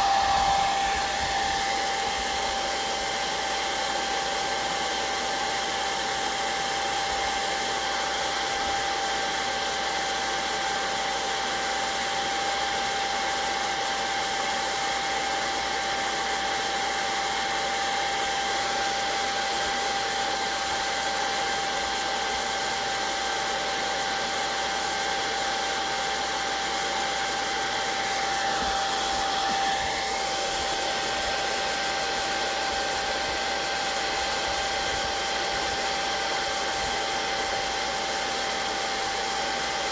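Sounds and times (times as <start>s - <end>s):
blow dryer running: 0.0s - 39.9s.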